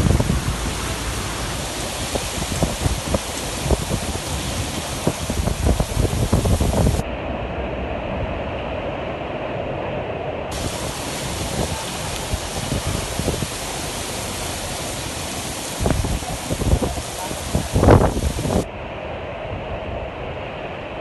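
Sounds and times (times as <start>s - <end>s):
wind buffeting microphone: 0.0s - 9.7s, 10.4s - 20.4s
heavy rain: 0.0s - 21.0s
rushing water: 0.0s - 21.0s.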